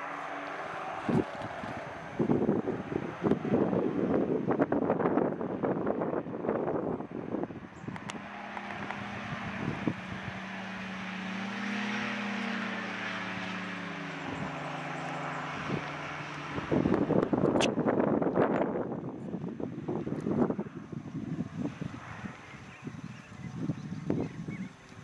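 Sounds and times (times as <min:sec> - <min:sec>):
engine and propeller droning: 0:00.0 - 0:25.0
wind buffeting microphone: 0:00.0 - 0:25.0.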